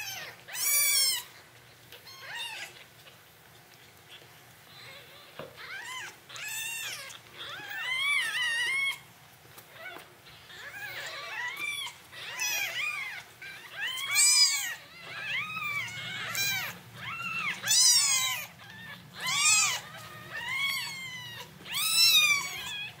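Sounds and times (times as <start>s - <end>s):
kittens mewing: 0.0s - 23.0s.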